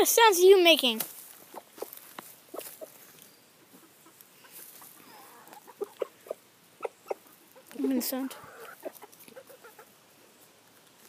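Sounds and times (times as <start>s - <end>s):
chickens clucking: 1.2s - 10.6s.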